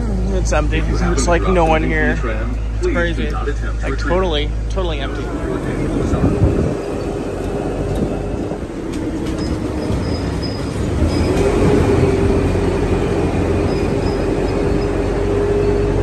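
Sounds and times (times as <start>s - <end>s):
tram motor and rolling noise: 0.0s - 16.0s
tram whine: 0.0s - 16.0s.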